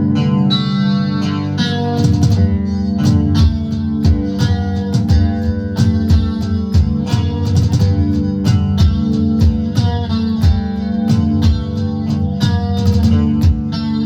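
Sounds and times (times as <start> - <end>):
guitar chords: 0.0 - 14.0
sharp percussion hits: 2.0 - 13.9.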